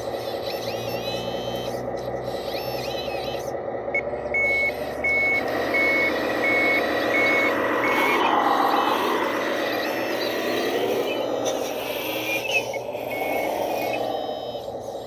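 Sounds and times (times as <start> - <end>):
diesel engine running: 0.0 - 15.0
reversing alarm beeping: 0.0 - 15.0.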